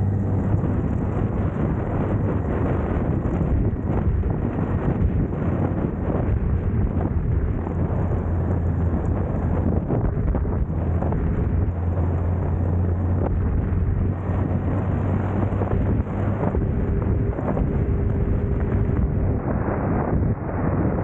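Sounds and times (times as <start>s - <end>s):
motorcycle engine running: 0.0s - 19.4s
wind rushing over microphone: 0.0s - 21.0s.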